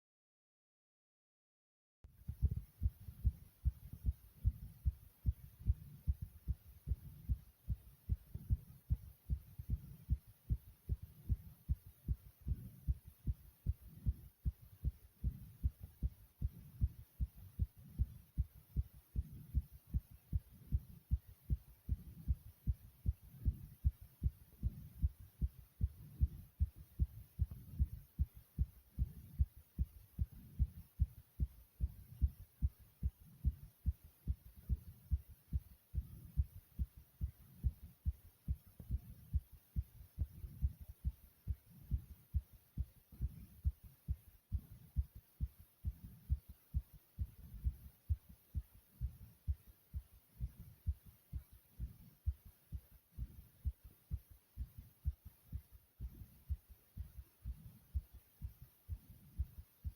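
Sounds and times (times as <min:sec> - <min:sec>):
fast heartbeat thumps: 0:02.2 - 0:59.9.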